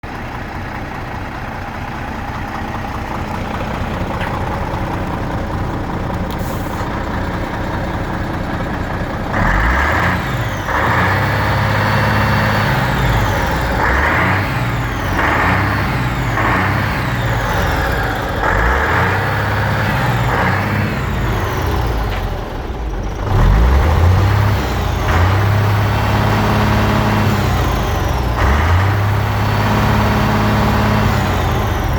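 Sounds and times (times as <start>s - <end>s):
diesel truck engine revving: 1.2s - 31.9s.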